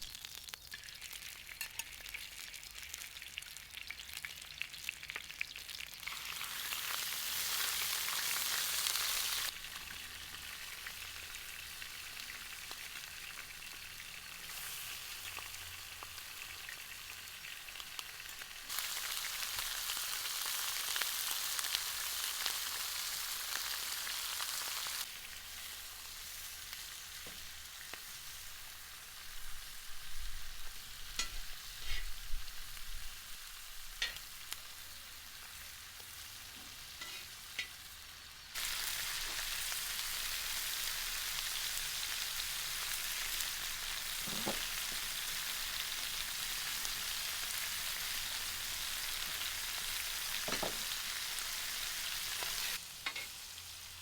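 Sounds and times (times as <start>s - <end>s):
meat sizzling in hot fat: 0.0s - 54.0s.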